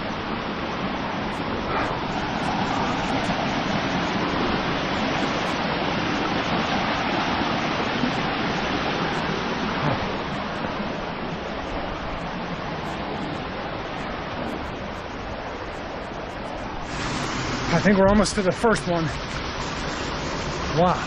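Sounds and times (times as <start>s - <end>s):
stream and waterfall rushing: 0.0s - 21.0s.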